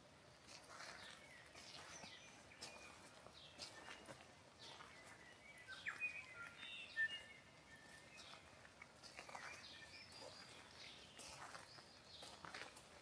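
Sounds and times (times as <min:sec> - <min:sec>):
soft footsteps on driveway: 0:00.0 - 0:13.0.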